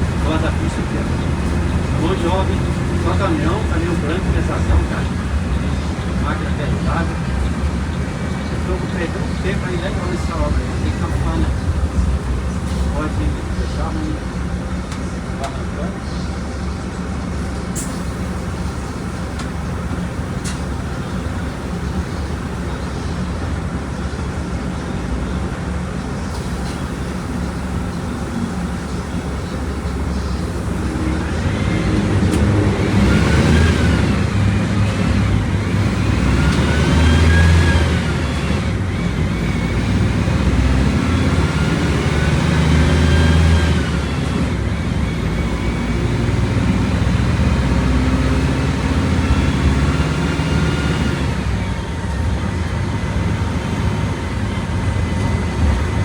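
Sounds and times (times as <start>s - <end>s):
bus engine accelerating: 0.0s - 56.0s.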